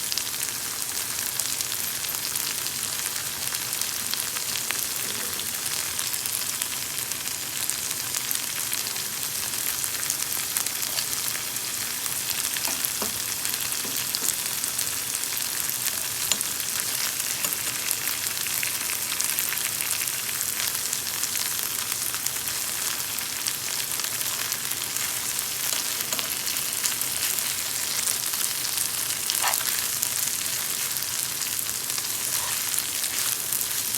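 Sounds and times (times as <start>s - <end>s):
meat sizzling in hot oil: 0.0s - 33.9s.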